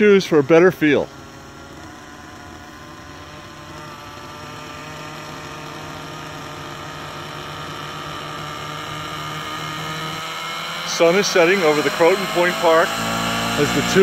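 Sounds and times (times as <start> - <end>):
model helicopter engines whining: 0.0 - 14.0.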